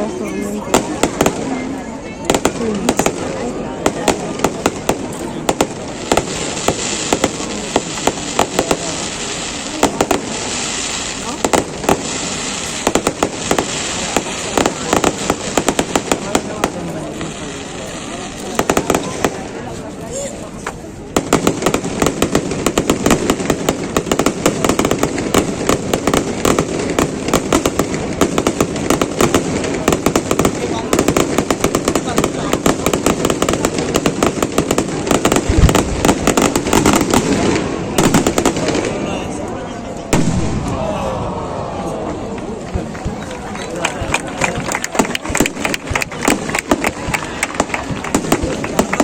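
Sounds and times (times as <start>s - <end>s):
firework bangs: 0.1s - 41.2s, 42.2s - 49.0s.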